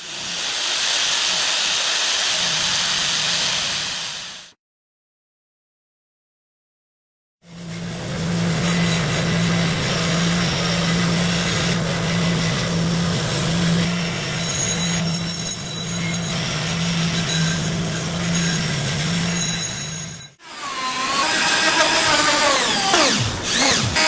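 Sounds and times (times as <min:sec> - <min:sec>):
power tool running: 0:00.0 - 0:04.5, 0:07.5 - 0:24.0.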